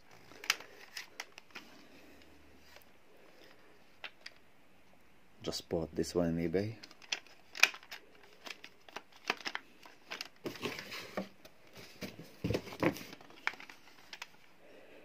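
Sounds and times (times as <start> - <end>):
crinkling: 0.0 - 4.4, 6.6 - 14.6.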